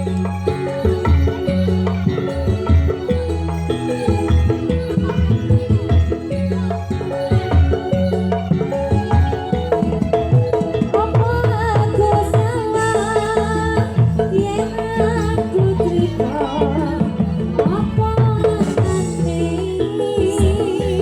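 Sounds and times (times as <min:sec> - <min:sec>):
hand drums beating: 0:00.0 - 0:21.0
ornamented melody line: 0:00.0 - 0:21.0.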